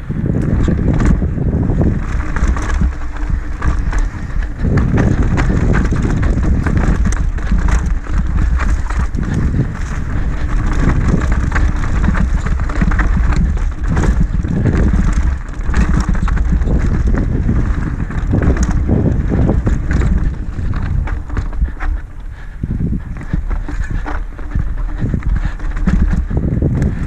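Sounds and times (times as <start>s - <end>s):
bike rattling and clicking: 0.0s - 27.0s
wind buffeting microphone: 0.0s - 27.0s
tyres rolling over dirt and stones: 0.3s - 27.0s.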